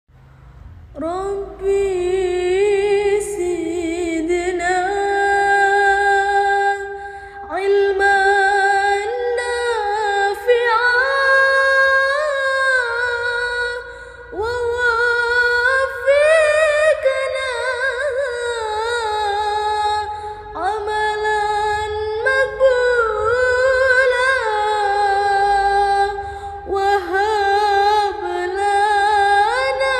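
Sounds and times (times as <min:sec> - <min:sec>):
woman singing: 0:01.0 - 0:29.9.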